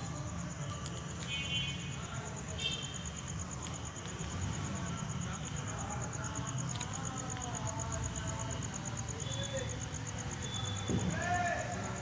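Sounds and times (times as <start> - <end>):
cricket chirping: 0.0 - 12.0
faint distant voices: 0.0 - 12.0.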